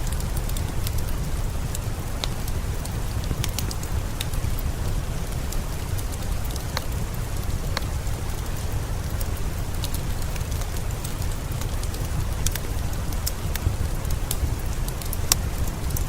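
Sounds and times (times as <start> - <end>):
steady rain hiss: 0.0 - 16.0
wood fire crackling and popping: 0.0 - 16.0.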